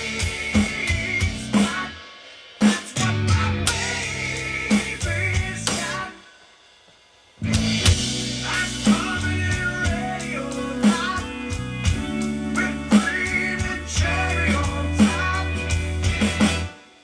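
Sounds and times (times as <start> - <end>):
rock music with drums and guitar: 0.0 - 6.3, 7.4 - 17.0.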